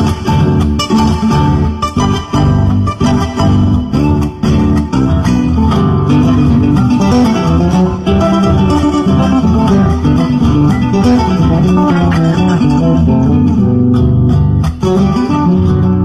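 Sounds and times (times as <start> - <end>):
fingerstyle electric bass line: 0.0 - 16.0
folk dance tune on guitar: 0.0 - 16.0.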